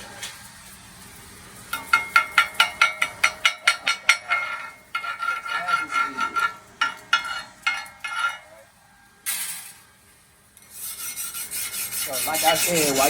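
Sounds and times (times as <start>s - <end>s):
metal strokes on ringing steel plate: 1.7s - 9.9s, 10.6s - 13.0s.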